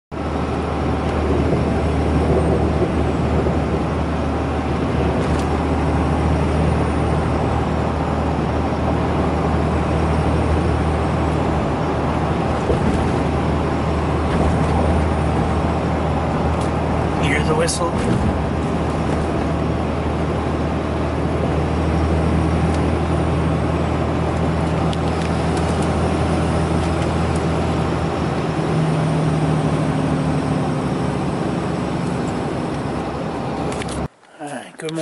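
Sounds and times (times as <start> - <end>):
diesel engine drone: 0.1 - 35.0.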